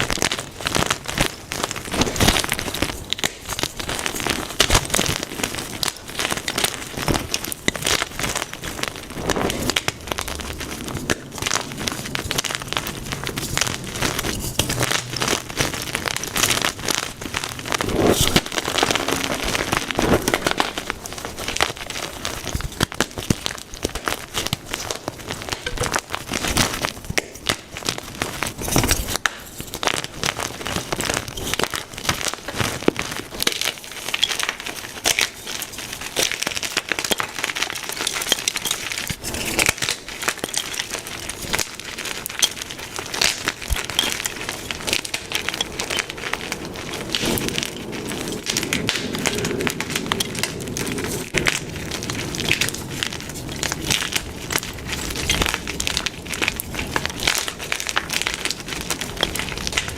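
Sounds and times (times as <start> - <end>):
chalk crunching and crackling: 0.0 - 59.9.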